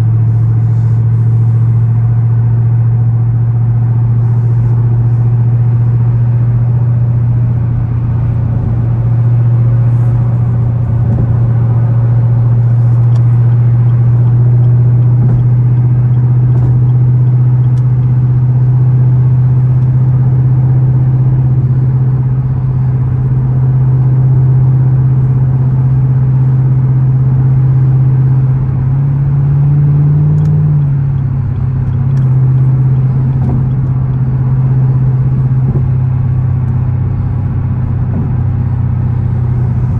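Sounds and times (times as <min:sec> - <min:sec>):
sports car engine droning: 0:00.0 - 0:39.9.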